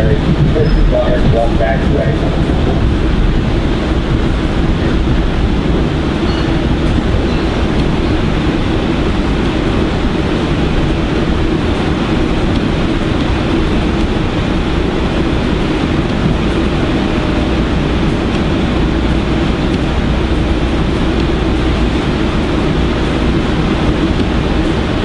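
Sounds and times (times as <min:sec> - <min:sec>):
train car rumble and rush: 0:00.0 - 0:25.0.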